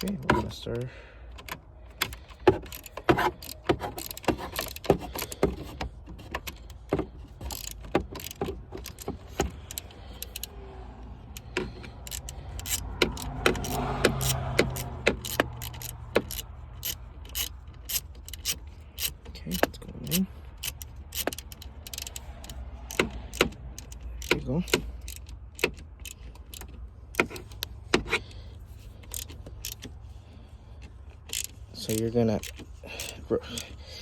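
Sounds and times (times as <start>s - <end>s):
hand ratchet clicking: 1.3s - 34.0s.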